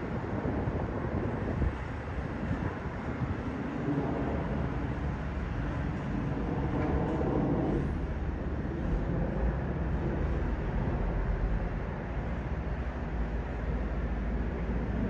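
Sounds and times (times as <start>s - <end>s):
jet airliner flyover: 0.0s - 15.0s.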